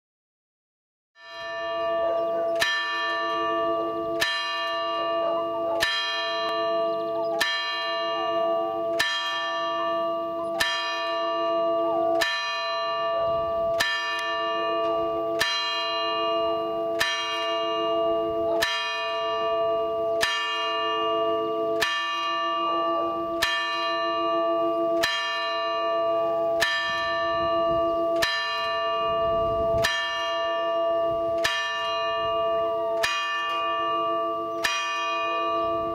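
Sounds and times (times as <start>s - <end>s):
church bell tolling: 1.2s - 35.9s.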